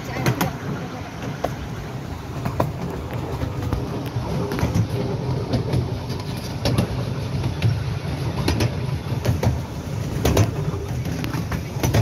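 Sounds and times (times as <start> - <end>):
train rumbling along track: 0.0 - 12.0
wheels clicking over rails: 0.0 - 12.0.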